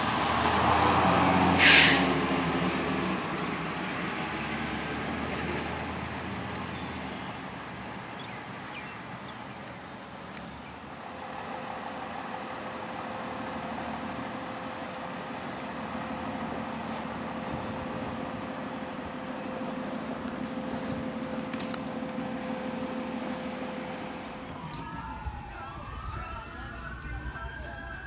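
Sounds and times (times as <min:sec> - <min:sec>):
emergency vehicle engines: 0:00.0 - 0:28.0.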